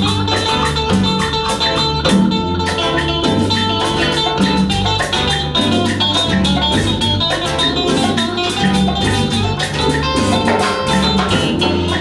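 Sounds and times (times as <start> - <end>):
bass: 0.0 - 12.0
congas and hand percussion: 0.0 - 12.0
electric guitar melody: 0.0 - 12.0.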